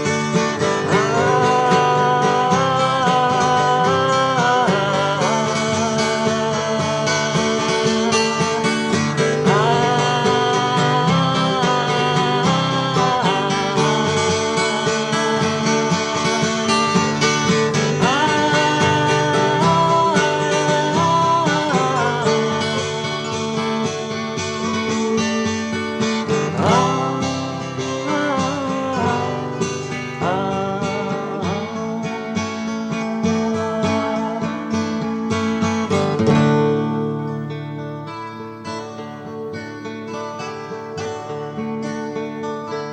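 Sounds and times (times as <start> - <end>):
song on acoustic guitar: 0.0 - 42.9.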